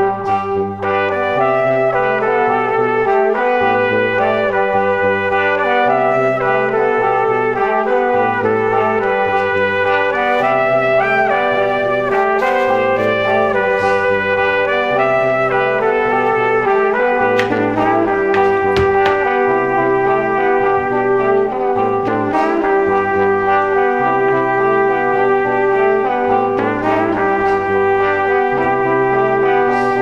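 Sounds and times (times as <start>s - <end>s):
instrumental background music: 0.0s - 30.0s.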